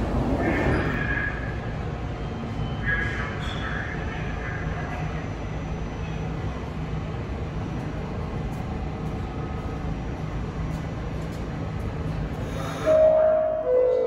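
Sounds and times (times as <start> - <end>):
constant low hum: 0.0 - 14.0
subway train rumble: 0.0 - 14.0.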